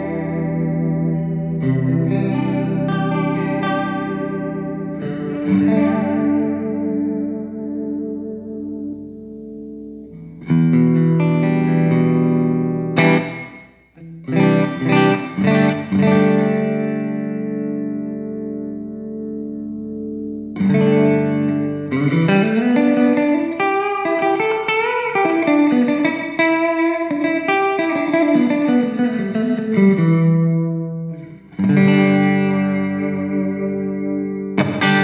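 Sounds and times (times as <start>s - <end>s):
electric guitar playing: 0.0s - 35.0s.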